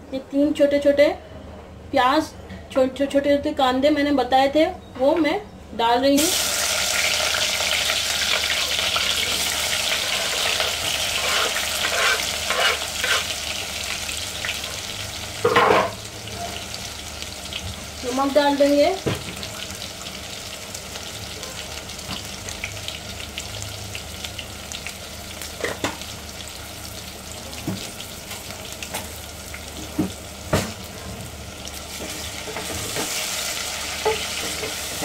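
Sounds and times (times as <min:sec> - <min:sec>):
onions sizzling in hot oil: 0:06.2 - 0:35.0.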